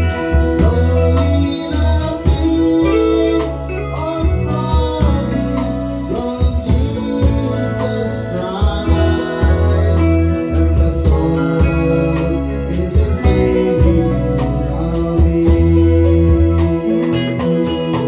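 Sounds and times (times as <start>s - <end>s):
acoustic guitar: 0.0s - 18.0s
keyboard: 0.0s - 18.0s
person singing: 0.0s - 18.0s.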